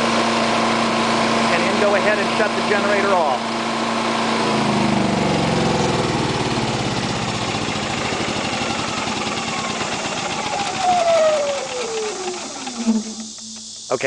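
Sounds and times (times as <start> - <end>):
generator engine running down: 0.0 - 14.0.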